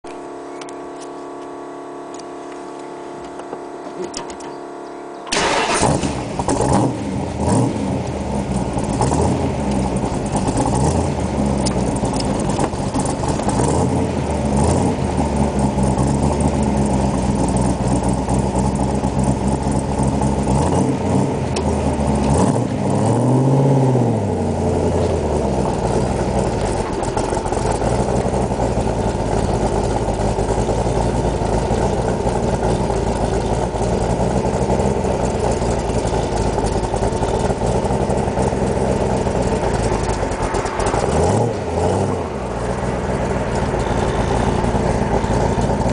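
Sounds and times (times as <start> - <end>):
car engine starting and revving: 5.3 - 45.9.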